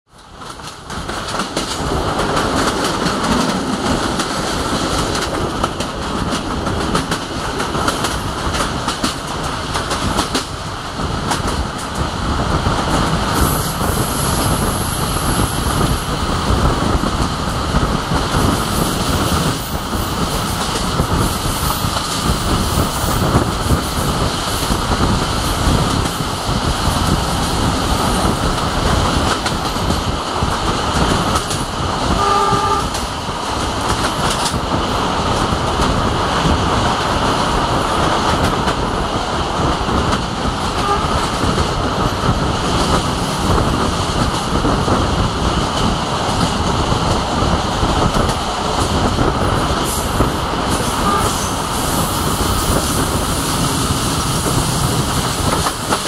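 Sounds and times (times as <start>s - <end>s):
train running gear rumble: 0.1s - 56.0s
wheels clacking over rail joints: 0.1s - 56.0s.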